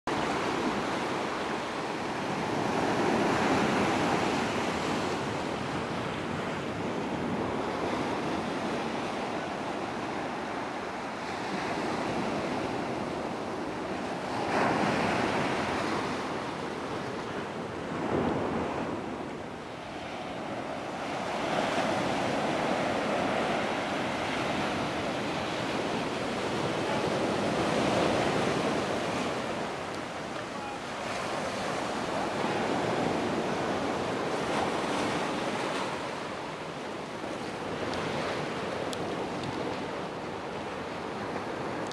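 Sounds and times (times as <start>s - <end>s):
small waves breaking on beach: 0.1s - 41.8s.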